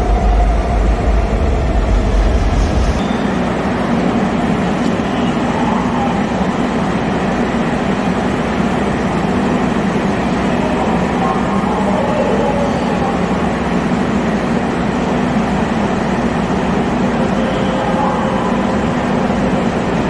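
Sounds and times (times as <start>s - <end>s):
subway train humming at platform: 0.0s - 20.0s.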